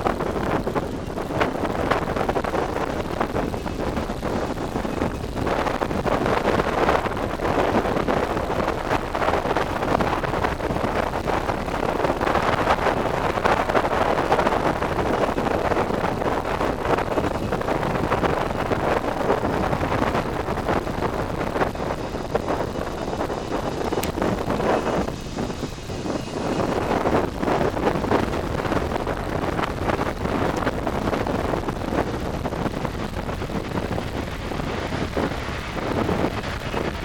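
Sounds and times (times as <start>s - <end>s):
jet engines of departing airliner: 0.0s - 37.0s
wind buffeting microphone: 0.0s - 37.0s.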